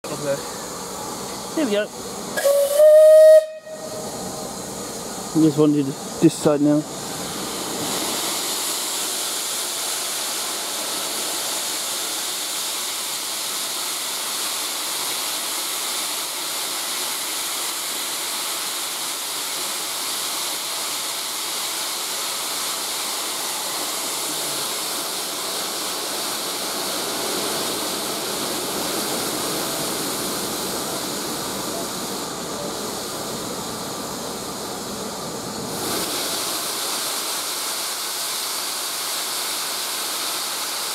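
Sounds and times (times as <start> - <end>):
steam hissing from locomotive: 0.0 - 40.9.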